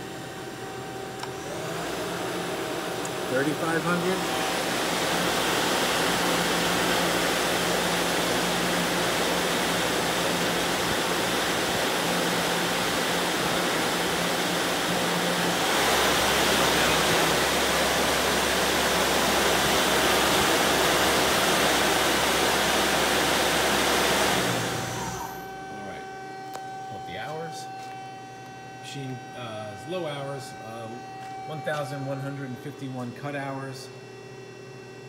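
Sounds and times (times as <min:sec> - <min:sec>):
lathe spindle whirring: 0:00.0 - 0:32.6.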